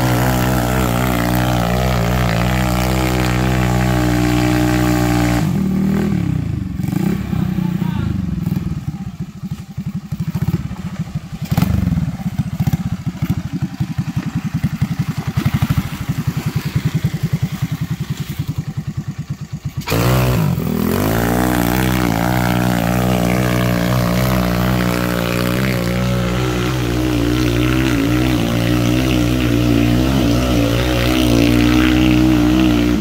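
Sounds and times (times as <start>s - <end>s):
go-kart engine chugging: 0.0s - 33.0s
steady engine drone: 0.0s - 33.0s.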